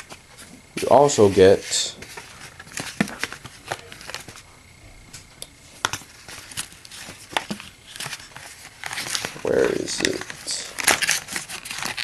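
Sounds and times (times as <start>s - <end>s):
packaging rustling: 0.0s - 4.5s, 5.8s - 12.0s.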